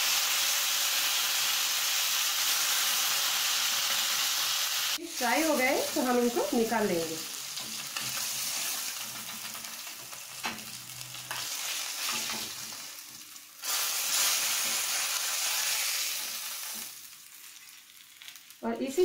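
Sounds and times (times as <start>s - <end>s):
fish sizzling in oil: 0.0s - 18.7s.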